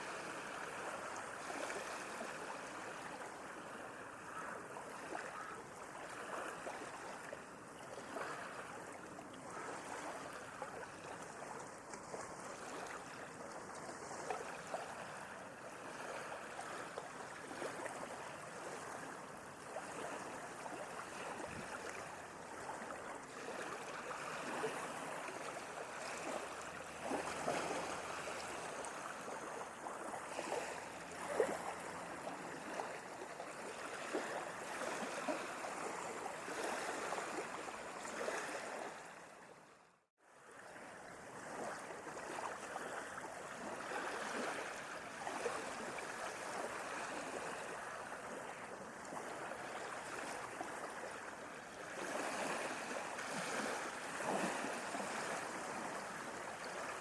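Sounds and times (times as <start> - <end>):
sea waves lapping: 0.0 - 57.0.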